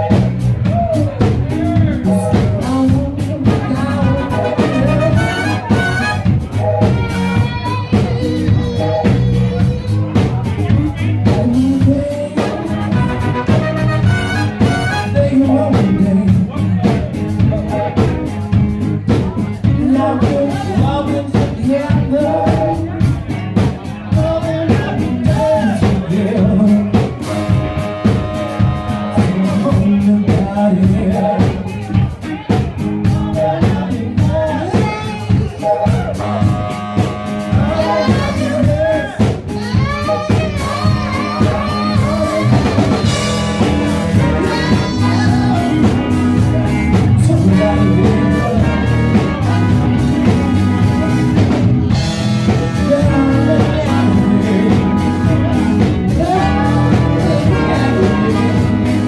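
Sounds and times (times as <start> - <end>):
lead vocal singing: 0.0 - 18.3, 19.1 - 59.0
drum kit: 0.0 - 59.0
live band with horns playing: 0.0 - 59.0.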